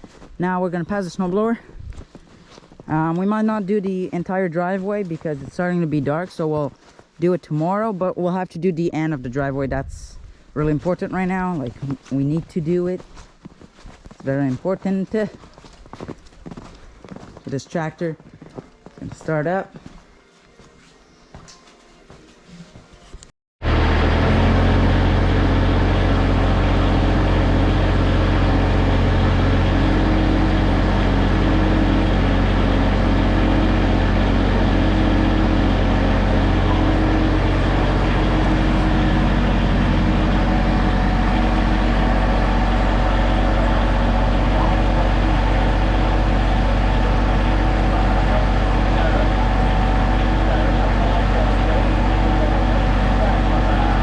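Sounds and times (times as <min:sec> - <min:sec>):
tractor engine humming: 0:00.0 - 0:09.9, 0:10.5 - 0:13.1, 0:21.4 - 0:54.0.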